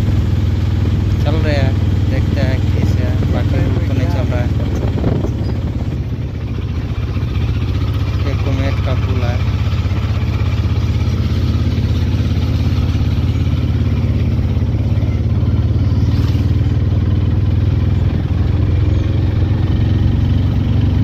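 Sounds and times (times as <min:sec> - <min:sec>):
rickshaw engine running: 0:00.0 - 0:21.0.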